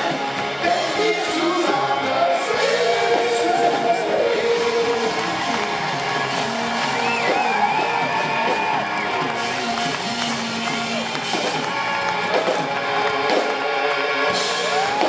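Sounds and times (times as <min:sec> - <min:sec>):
drums: 0:00.0 - 0:15.0
electric guitars: 0:00.0 - 0:15.0
live band music: 0:00.0 - 0:15.0.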